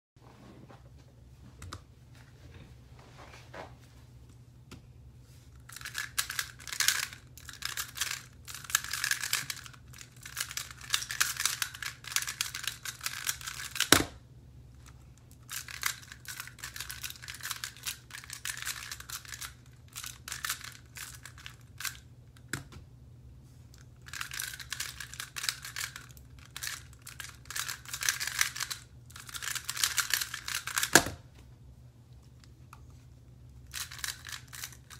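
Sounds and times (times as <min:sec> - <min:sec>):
faint low hum: 0:00.2 - 0:34.9.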